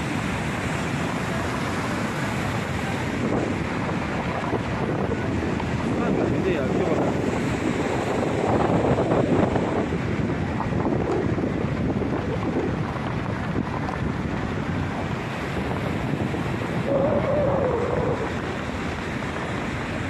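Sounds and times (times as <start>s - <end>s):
river rapids rushing: 0.0s - 20.0s
wind buffeting microphone: 0.0s - 20.0s.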